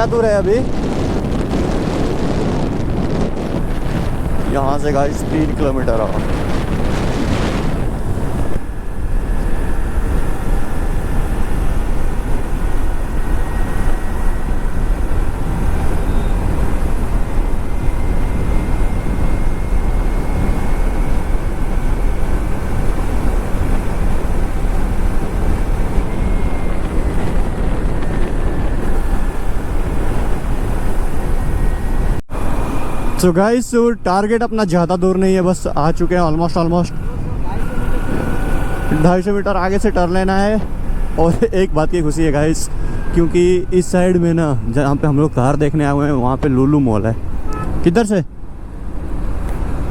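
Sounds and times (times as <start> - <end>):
wind noise on microphone: 0.0 - 33.3, 35.0 - 49.9
motorcycle riding at speed: 0.0 - 49.9.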